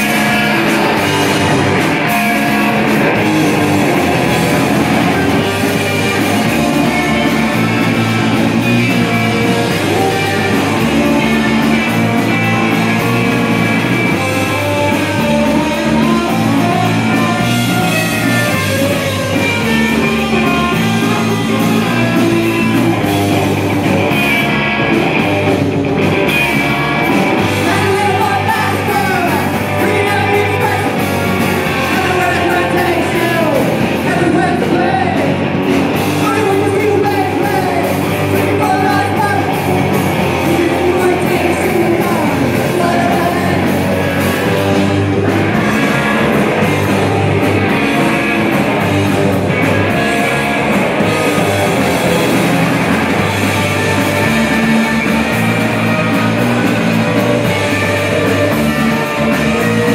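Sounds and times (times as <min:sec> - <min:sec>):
distorted electric guitar: 0:00.0 - 0:59.9
drum kit: 0:00.0 - 0:59.9
electric bass: 0:00.0 - 0:59.9.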